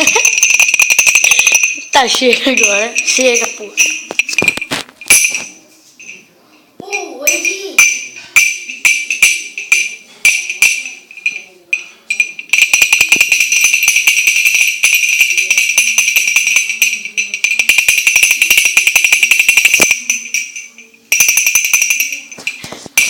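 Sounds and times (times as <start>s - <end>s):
metallic toy jingle: 0.0s - 23.0s.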